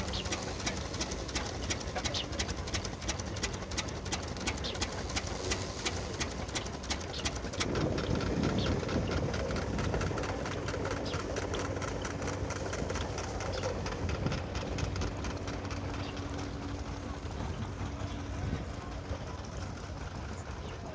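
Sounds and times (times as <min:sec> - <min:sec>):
threshing machine clattering: 0:00.0 - 0:20.9.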